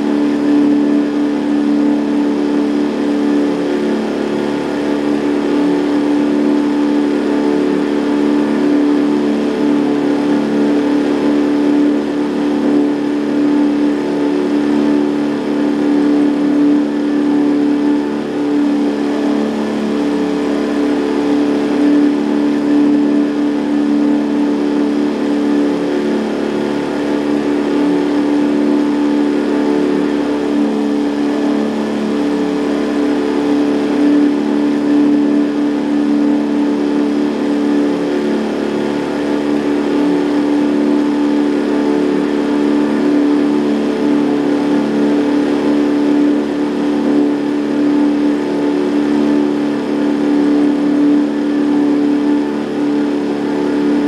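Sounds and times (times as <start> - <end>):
outboard motor droning: 0.0 - 54.0.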